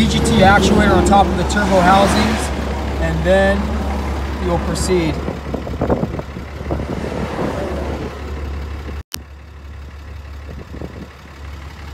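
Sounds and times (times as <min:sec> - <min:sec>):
diesel truck engine idling: 0:00.0 - 0:11.9.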